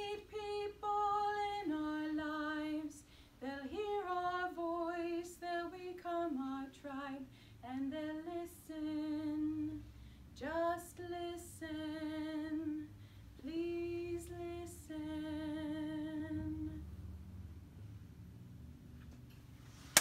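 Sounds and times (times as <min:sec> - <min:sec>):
woman singing with vibrato: 0:00.0 - 0:09.8, 0:10.4 - 0:16.8.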